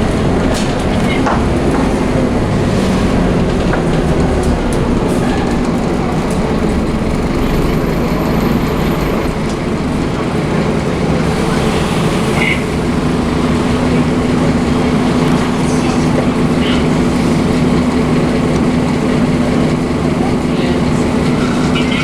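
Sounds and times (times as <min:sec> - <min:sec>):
bus diesel engine droning: 0:00.0 - 0:22.0.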